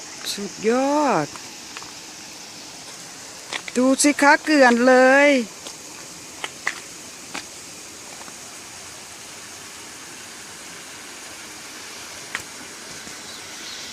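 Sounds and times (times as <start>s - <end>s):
rain and hail falling: 1.1s - 13.3s.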